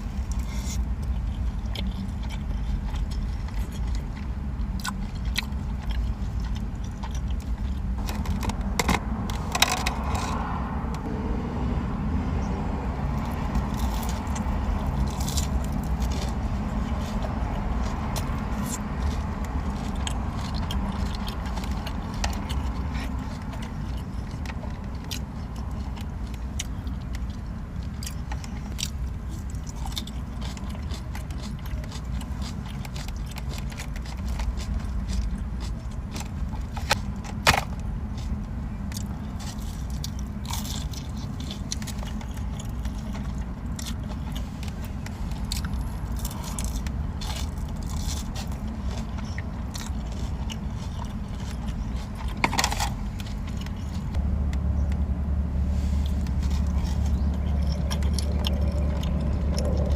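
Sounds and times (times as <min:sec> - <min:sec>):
chewing with wet clicks: 0:00.0 - 0:10.4, 0:13.1 - 0:55.1, 0:56.0 - 0:59.9
steady low rumble: 0:00.0 - 0:59.9.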